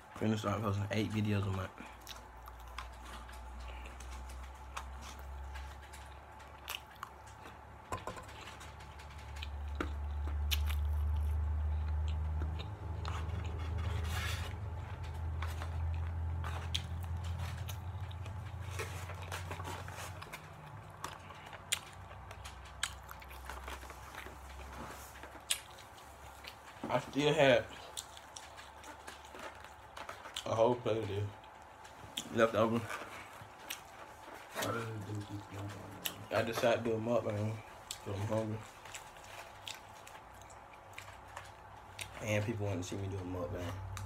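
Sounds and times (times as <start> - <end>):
chewing and mouth noises: 0.4 - 44.0.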